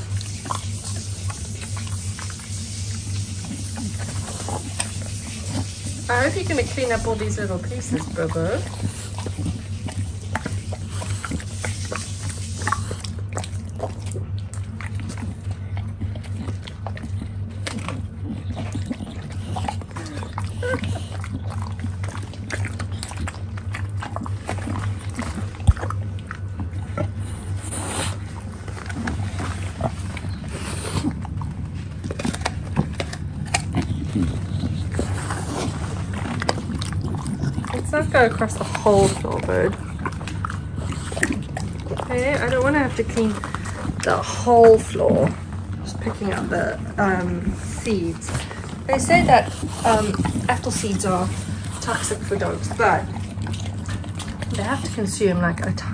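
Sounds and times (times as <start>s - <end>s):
dog chewing and licking: 0.0s - 55.9s
steady low hum: 0.0s - 55.9s.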